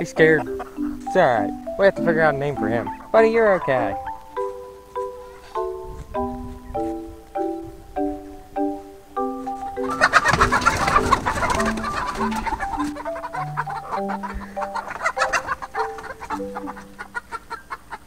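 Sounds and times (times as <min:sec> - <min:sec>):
background mallet music: 0:00.0 - 0:17.6
hens clucking and squawking: 0:00.0 - 0:18.0.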